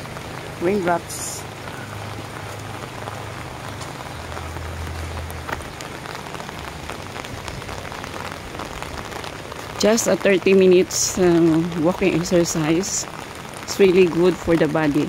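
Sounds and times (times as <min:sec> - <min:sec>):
rain falling on umbrella: 0:00.0 - 0:15.0.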